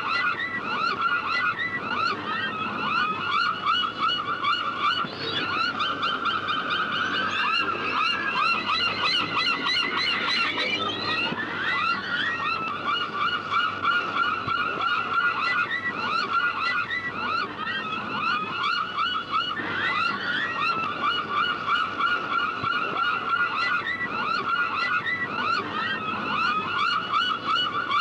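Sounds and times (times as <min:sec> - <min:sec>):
gulls calling: 0:00.0 - 0:28.0.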